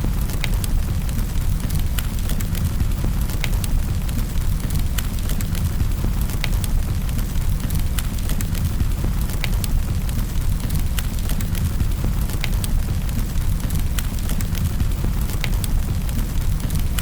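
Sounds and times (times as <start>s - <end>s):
low rumble of fire: 0.0s - 17.0s
pops and snaps of fire: 0.0s - 17.0s
wood fire crackling: 0.0s - 17.0s.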